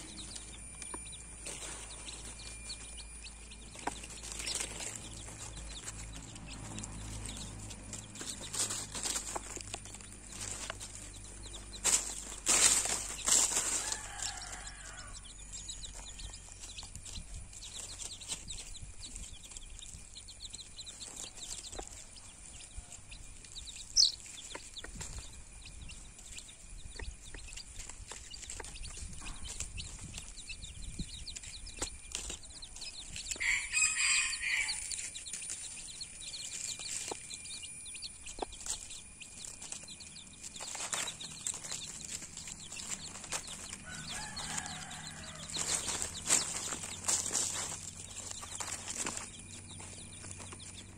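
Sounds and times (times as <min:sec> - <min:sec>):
baby chicks peeping: 0:00.0 - 0:50.9.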